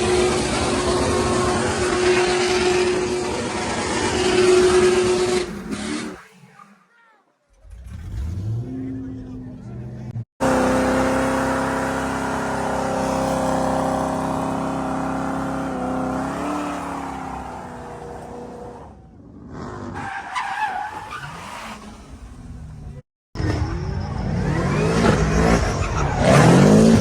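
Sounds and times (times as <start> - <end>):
car engine revving: 0.0 - 6.4, 7.5 - 20.0, 21.8 - 27.0
tyres skidding: 0.0 - 27.0.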